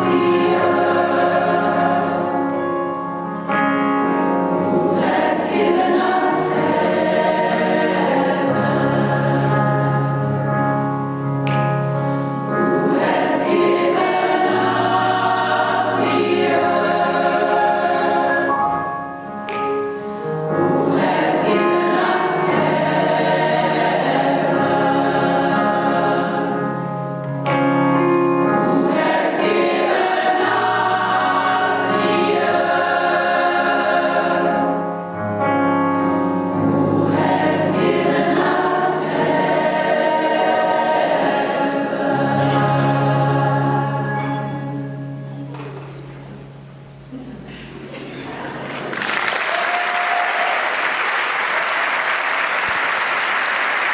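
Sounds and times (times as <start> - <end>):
gospel choir singing: 0.0 - 11.1, 12.0 - 46.5.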